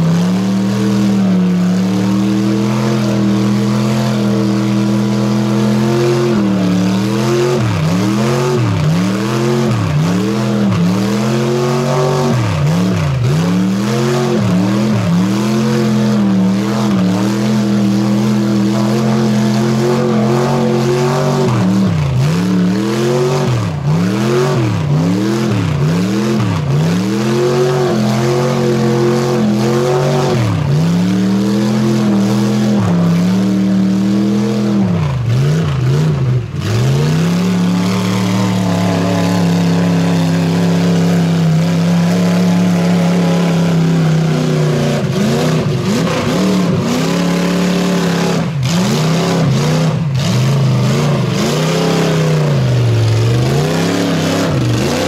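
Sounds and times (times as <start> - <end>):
truck engine revving: 0.0 - 55.0.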